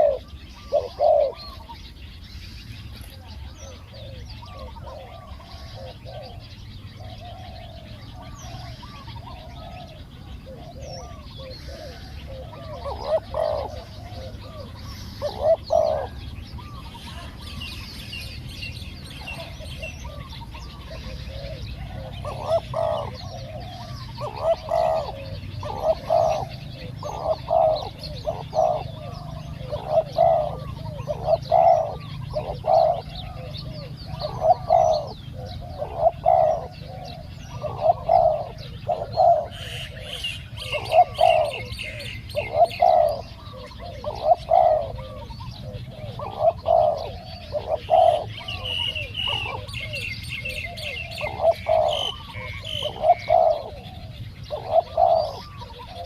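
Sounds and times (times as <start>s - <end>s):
doves cooing: 0.0s - 56.0s
small birds chirping: 0.0s - 56.0s.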